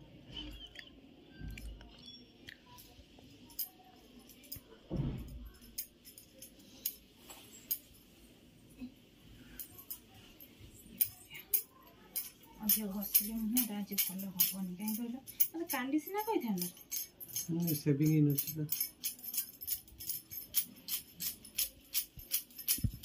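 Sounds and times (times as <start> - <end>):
bangles clinking: 1.4 - 8.2, 9.4 - 23.0.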